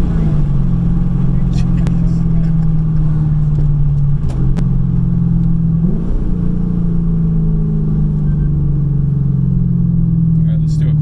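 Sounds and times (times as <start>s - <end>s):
car exhaust droning: 0.0s - 11.0s.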